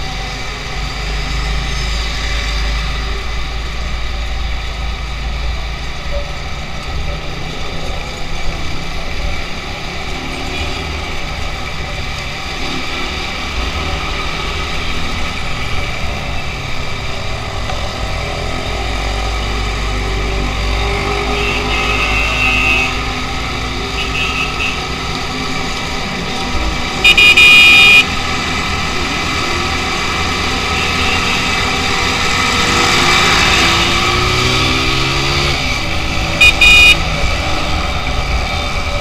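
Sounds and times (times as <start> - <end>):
truck engines: 0.0 - 39.0.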